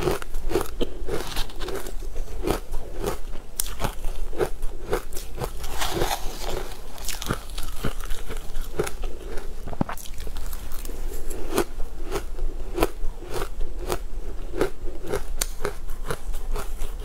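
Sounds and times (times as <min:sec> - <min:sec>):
crunching and chewing frozen food: 0:00.0 - 0:17.0.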